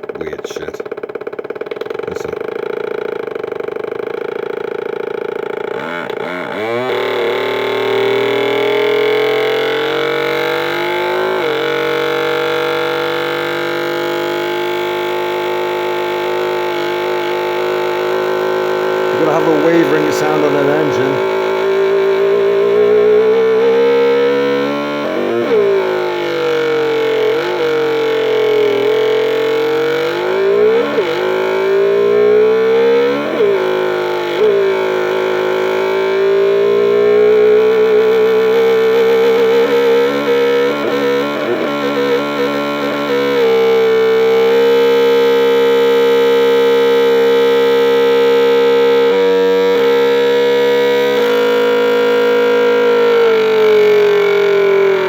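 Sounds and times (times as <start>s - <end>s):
distorted electronic engine buzz: 0.0s - 55.0s.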